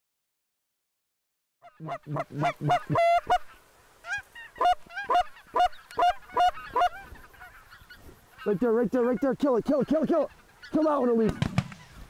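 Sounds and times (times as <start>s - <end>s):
geese honking: 1.6s - 12.0s.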